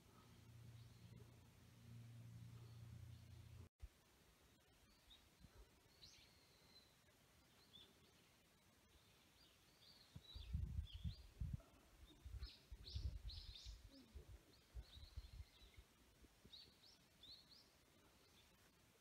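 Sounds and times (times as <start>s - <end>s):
small birds chirping: 0.0s - 3.7s, 4.5s - 19.0s.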